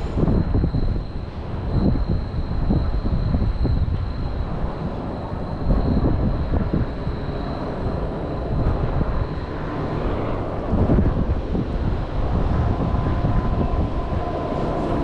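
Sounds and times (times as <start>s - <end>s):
aircraft engine drone: 0.0s - 15.0s
wind buffeting microphone: 0.0s - 15.0s.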